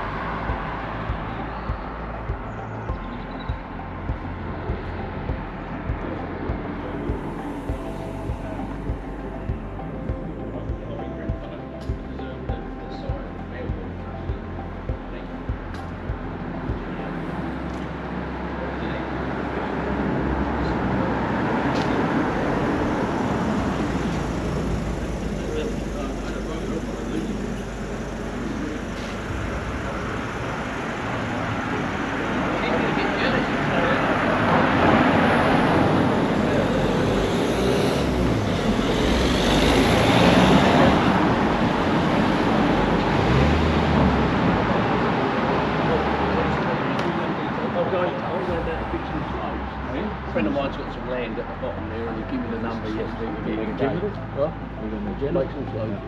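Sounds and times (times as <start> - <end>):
vehicle passing: 0.0 - 11.9, 15.8 - 55.8.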